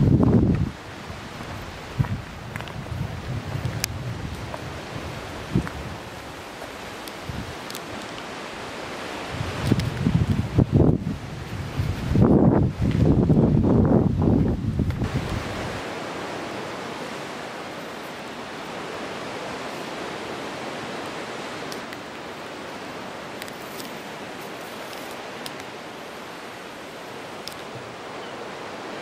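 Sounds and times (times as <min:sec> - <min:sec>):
wind rumble on microphone: 0:00.0 - 0:25.6
sea surf on rocky shore: 0:00.0 - 0:29.0.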